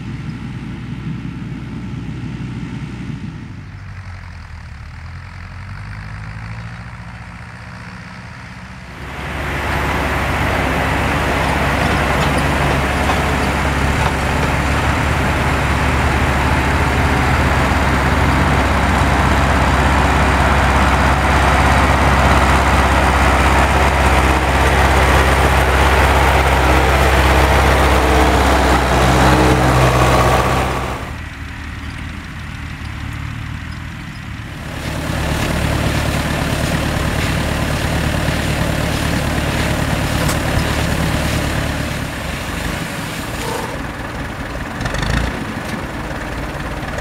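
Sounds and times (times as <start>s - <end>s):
tractor diesel engines running: 0.0s - 47.0s.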